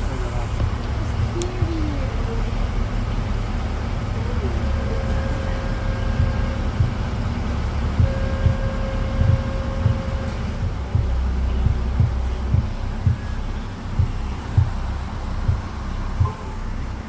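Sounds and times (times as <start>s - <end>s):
boat engine rumbling: 0.0s - 17.0s
low thumps: 0.0s - 17.0s
steady tone: 0.0s - 17.0s.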